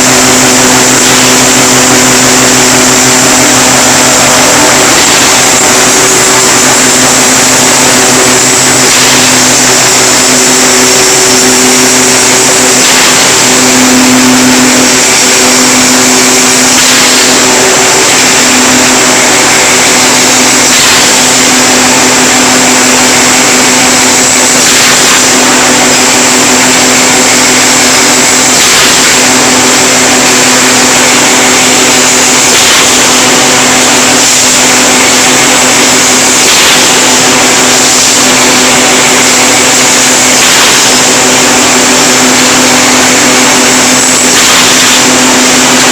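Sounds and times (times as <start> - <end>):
machine whirring with high whine: 0.0 - 45.9.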